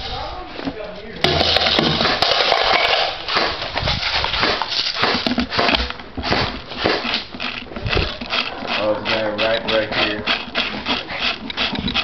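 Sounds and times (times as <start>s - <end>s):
footsteps on concrete with debris: 0.0s - 10.2s.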